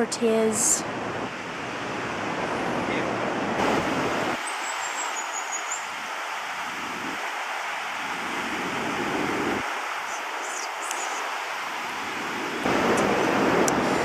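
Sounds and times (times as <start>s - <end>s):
low rumble of waves: 0.0s - 14.0s
surf washing in: 0.8s - 14.0s.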